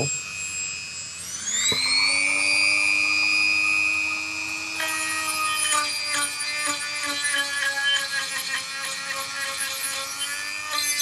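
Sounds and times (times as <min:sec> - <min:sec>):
rotary tool motor whining: 0:00.0 - 0:11.0
cutoff wheel grinding metal: 0:01.4 - 0:11.0.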